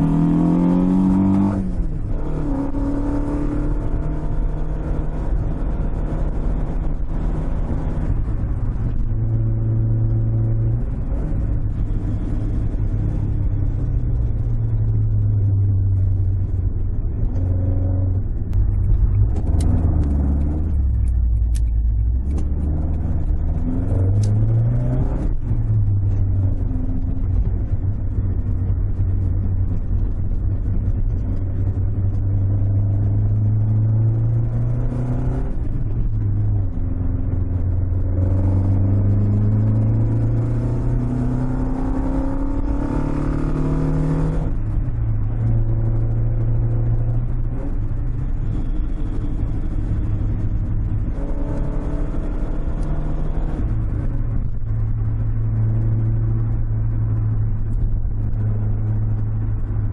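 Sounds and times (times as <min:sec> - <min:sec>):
car engine revving from inside: 0:00.0 - 0:59.9.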